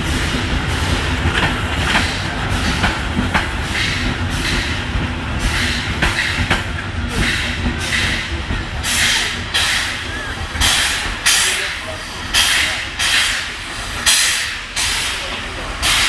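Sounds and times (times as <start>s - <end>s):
rhythmic steam hiss: 0.0s - 16.0s
train wheels clicking over joints: 0.0s - 16.0s.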